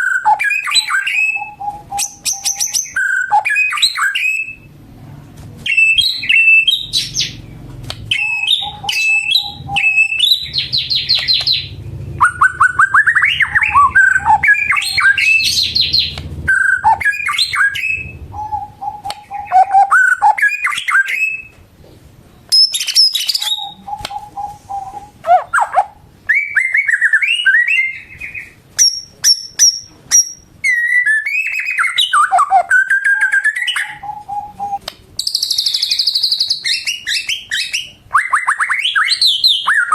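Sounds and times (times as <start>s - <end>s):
bird singing varied whistles: 0.0s - 4.7s, 5.6s - 7.4s, 8.1s - 21.5s, 22.5s - 39.9s.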